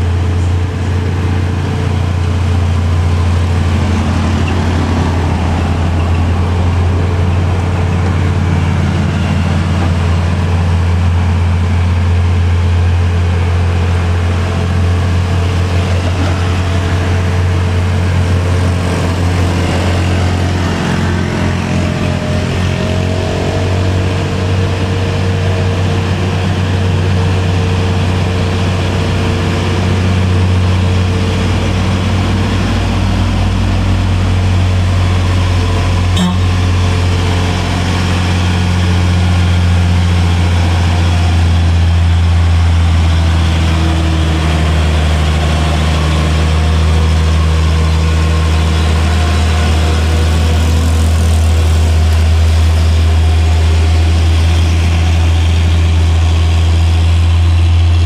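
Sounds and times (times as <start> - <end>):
truck diesel engine under load: 0.0 - 58.0.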